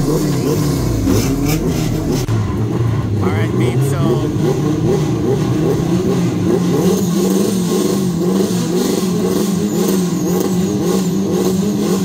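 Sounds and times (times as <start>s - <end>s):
car engine running at raised revs: 0.0s - 12.0s.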